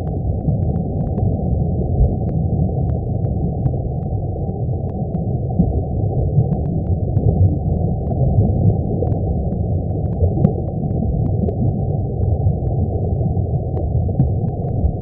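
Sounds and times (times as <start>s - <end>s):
faint ticks: 0.0s - 1.4s, 2.0s - 5.8s, 6.4s - 12.9s, 13.7s - 15.0s.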